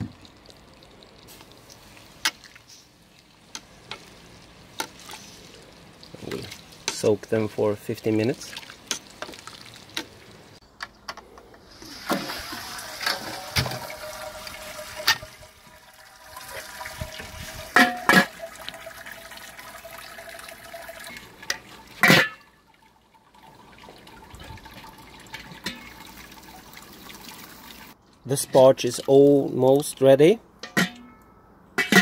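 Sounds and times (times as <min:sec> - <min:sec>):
water running and splashing: 0:00.0 - 0:10.6, 0:11.7 - 0:28.0.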